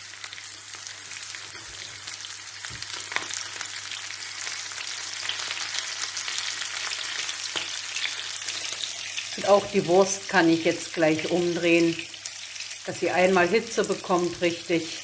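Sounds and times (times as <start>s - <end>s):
onion rings sizzling in a pan: 0.0s - 15.0s.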